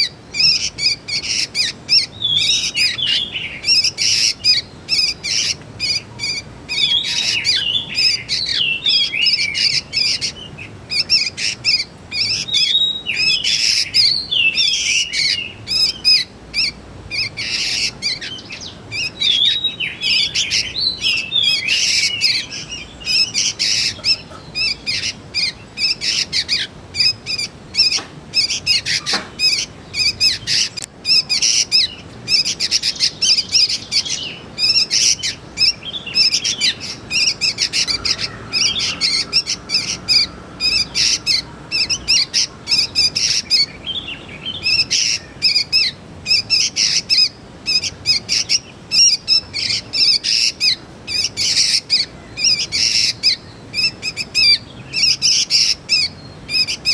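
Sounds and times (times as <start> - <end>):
young birds chirping: 0.0 - 56.9.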